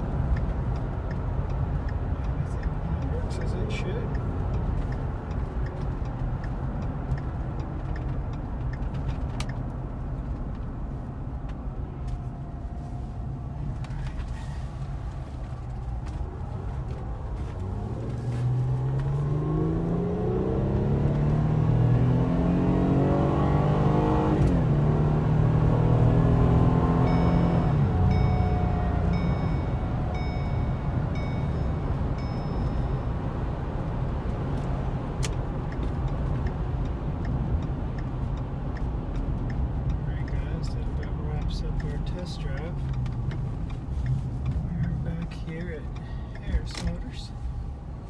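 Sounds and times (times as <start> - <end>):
car engine accelerating: 0.0 - 48.0
road and tyre rumble: 0.0 - 48.0.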